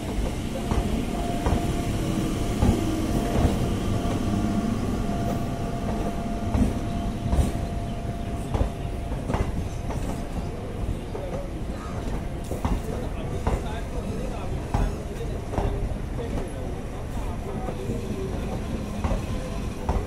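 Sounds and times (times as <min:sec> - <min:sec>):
train coaches rumbling past: 0:00.0 - 0:20.0.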